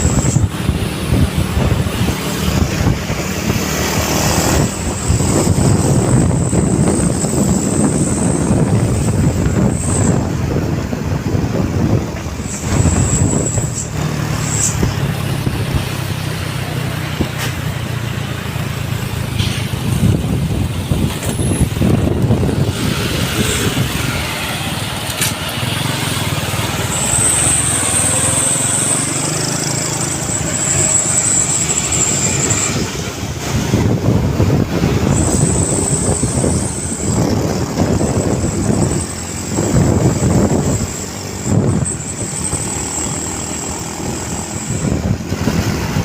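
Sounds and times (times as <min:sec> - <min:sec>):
diesel truck engine running: 0:00.0 - 0:46.0.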